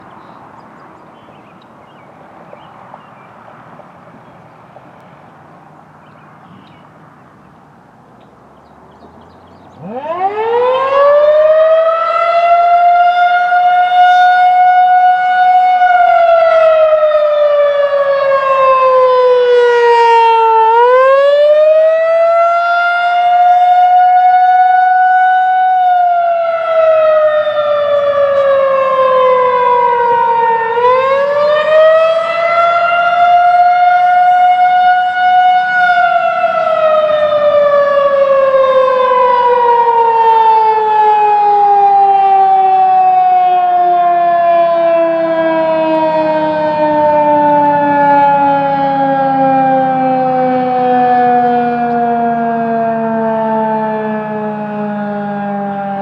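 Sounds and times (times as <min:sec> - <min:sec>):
warning siren wailing: 0:09.1 - 0:56.0.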